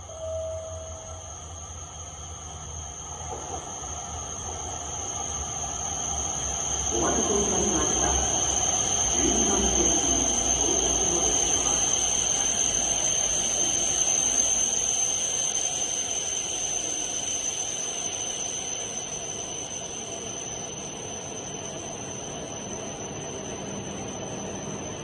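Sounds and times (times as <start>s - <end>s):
steady high-pitched whine: 0.0s - 25.0s
train rumbling on arrival: 0.0s - 25.0s.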